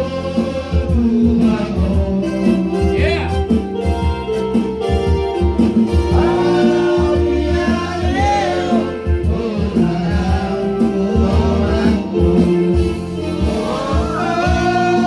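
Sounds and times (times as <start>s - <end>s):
men singing: 0.0s - 3.6s, 5.8s - 15.0s
backing music with low beat: 0.0s - 15.0s.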